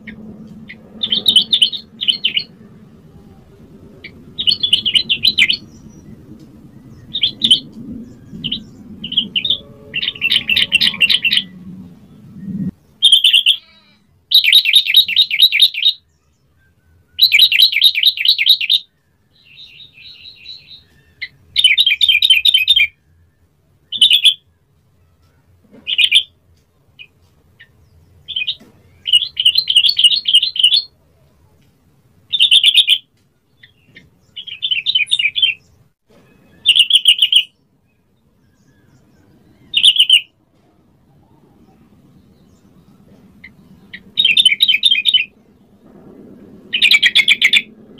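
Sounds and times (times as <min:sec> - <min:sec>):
bulbul singing: 0:00.0 - 0:02.6, 0:04.0 - 0:23.0, 0:23.8 - 0:26.4, 0:27.0 - 0:30.9, 0:32.3 - 0:40.4, 0:41.2 - 0:47.8.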